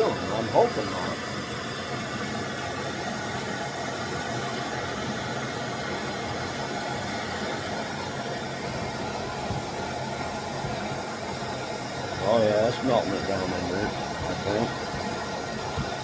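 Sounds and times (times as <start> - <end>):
gas torch hissing: 0.0 - 16.0.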